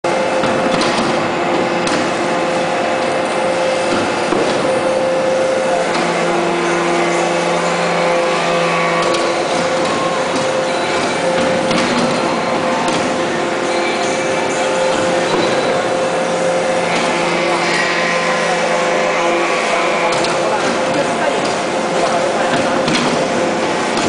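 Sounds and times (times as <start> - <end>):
hydraulic press humming and whining: 0.0 - 24.0
lower machine tone: 0.0 - 24.0.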